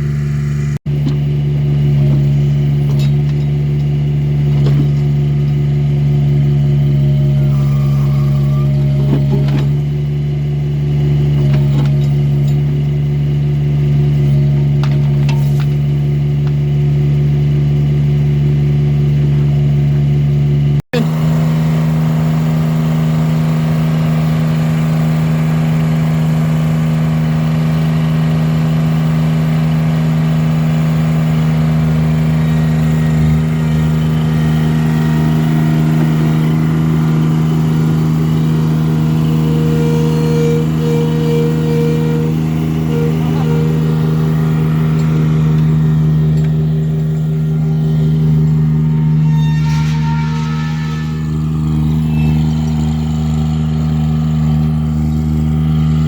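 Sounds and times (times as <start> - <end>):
backhoe engine running: 0.0 - 56.0.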